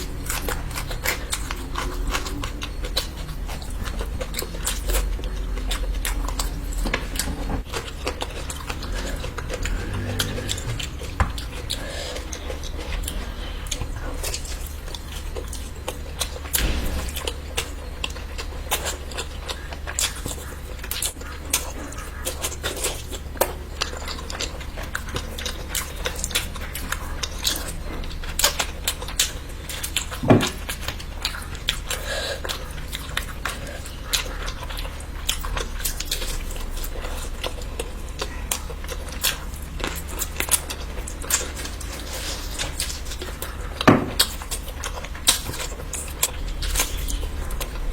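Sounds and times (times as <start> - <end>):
person chewing food: 0.0 - 47.9
steady low hum: 0.0 - 47.9.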